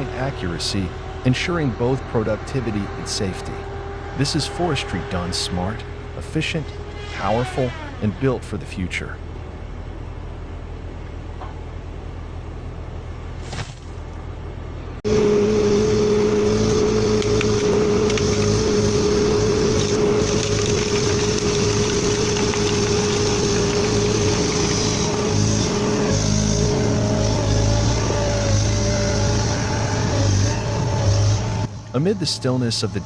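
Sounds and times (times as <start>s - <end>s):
diesel engine running with whine: 0.0s - 33.0s.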